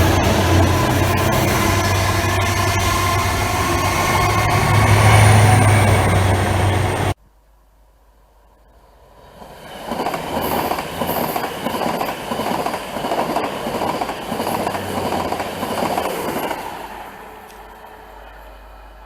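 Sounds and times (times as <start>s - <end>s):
train wheels on rails: 0.0s - 7.2s, 9.2s - 19.0s.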